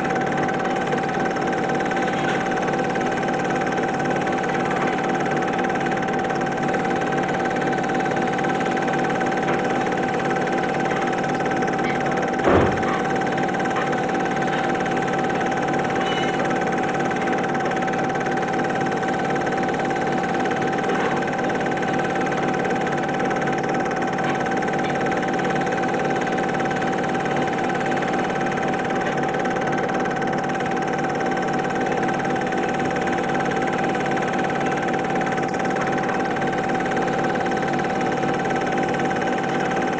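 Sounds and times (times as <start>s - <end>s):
film projector motor whirring: 0.0s - 39.9s.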